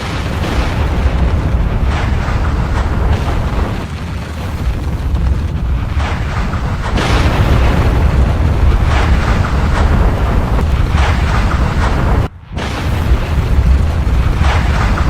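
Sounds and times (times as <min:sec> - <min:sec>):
deep volcanic rumble: 0:00.0 - 0:15.0
eruption blasts: 0:00.0 - 0:15.0.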